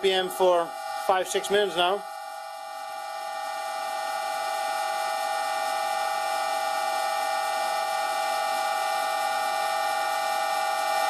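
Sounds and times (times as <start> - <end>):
lathe running with whine: 0.0 - 11.0.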